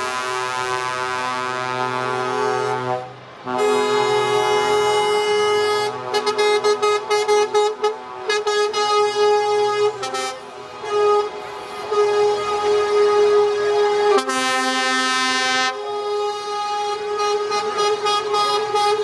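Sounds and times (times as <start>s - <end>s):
truck air horns: 0.0s - 19.0s.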